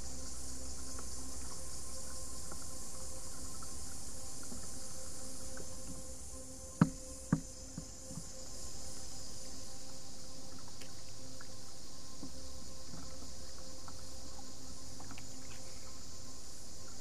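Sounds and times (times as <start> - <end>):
insect chorus: 0.0 - 17.0.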